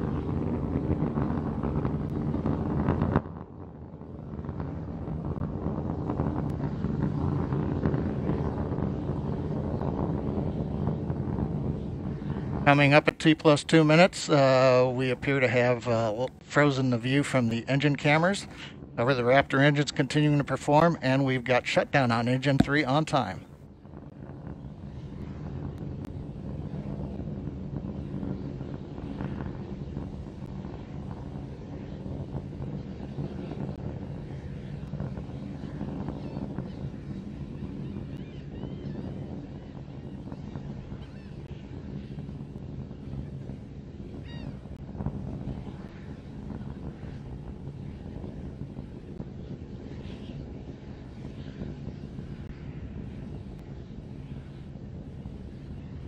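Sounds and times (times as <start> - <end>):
rocket engines rumbling: 0.0 - 56.0.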